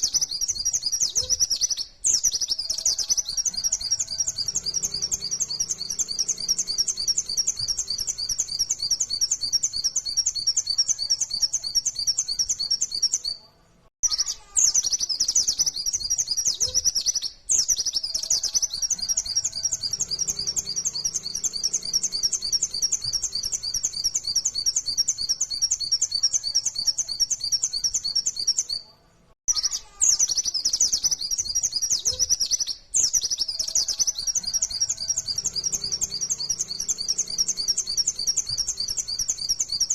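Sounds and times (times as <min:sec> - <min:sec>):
bird high-pitched chattering song: 0:00.0 - 0:13.4, 0:14.0 - 0:28.8, 0:29.5 - 0:39.9.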